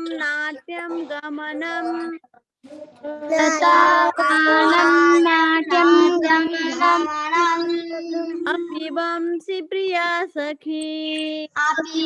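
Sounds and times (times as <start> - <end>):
child chanting a sung melody: 0.0 - 12.0.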